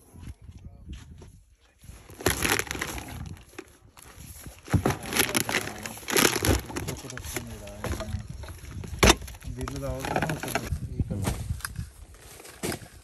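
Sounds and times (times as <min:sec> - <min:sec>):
crunching and rustling: 0:01.8 - 0:13.0.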